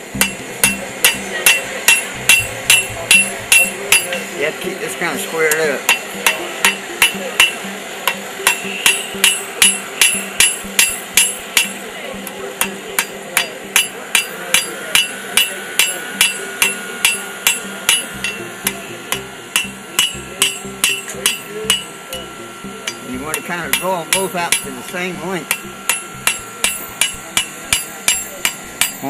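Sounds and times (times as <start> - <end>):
hammer striking iron on anvil: 0.0 - 4.4, 5.1 - 29.0.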